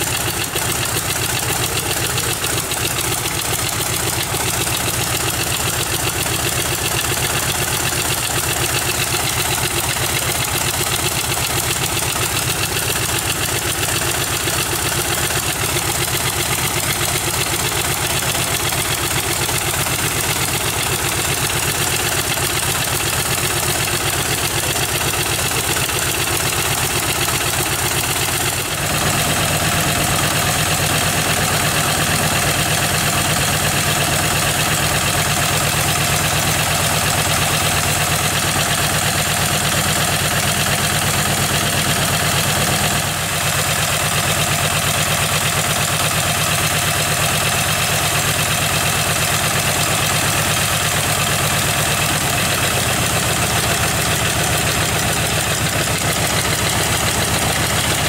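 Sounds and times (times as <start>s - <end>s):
radial aircraft engine idling: 0.0s - 58.0s.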